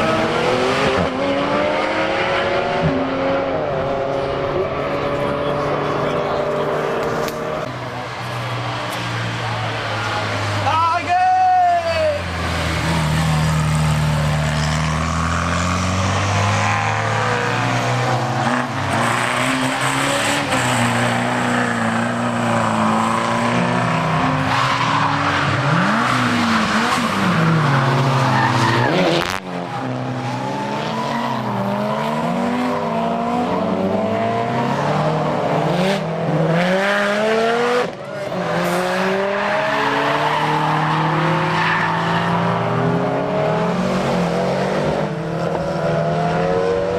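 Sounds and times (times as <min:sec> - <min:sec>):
race car engines revving: 0:00.0 - 0:46.9.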